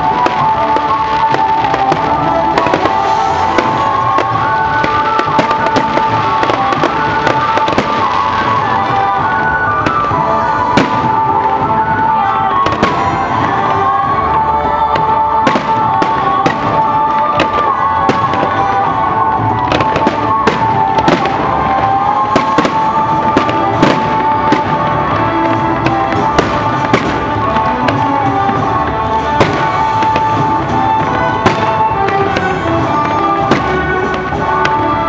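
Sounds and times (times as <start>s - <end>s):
fireworks bangs and crackles: 0.0s - 35.0s
music with long held notes: 0.0s - 35.0s.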